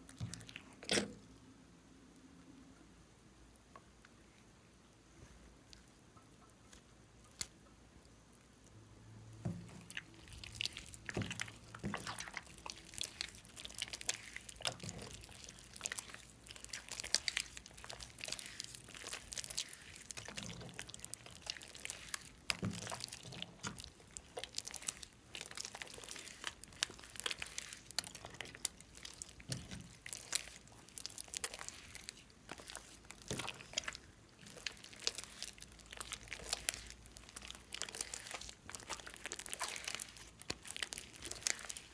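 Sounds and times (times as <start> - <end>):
slime crackling and squishing: 0.0 - 1.3, 5.6 - 41.9.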